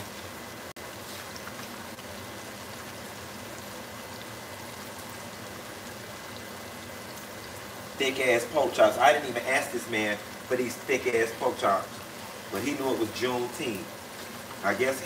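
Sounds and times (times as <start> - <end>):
pork chops sizzling in oil: 0.0 - 15.0.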